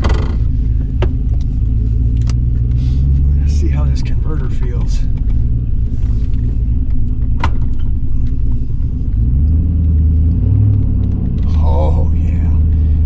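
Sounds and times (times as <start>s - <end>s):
engine running rough: 0.0s - 13.0s.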